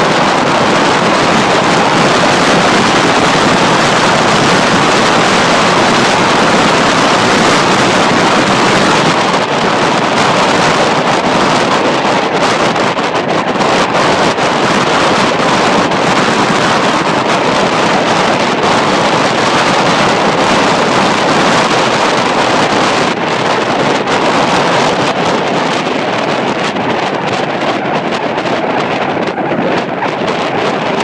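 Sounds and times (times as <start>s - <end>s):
longboard wheels rolling on asphalt: 0.0s - 31.0s
wind rushing over microphone: 0.0s - 31.0s.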